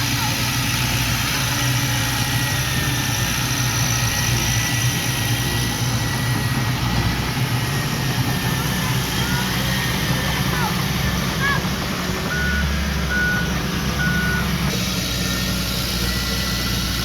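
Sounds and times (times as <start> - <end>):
heavy machinery diesel engine: 0.0 - 17.0.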